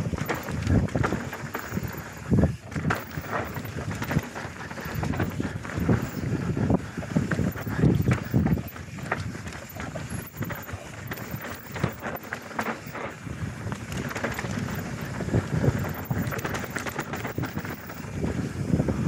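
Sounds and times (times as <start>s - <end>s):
bike rattling over bumps: 0.0s - 19.0s
bike tyres on dirt: 0.0s - 19.0s
wind on microphone: 0.0s - 19.0s.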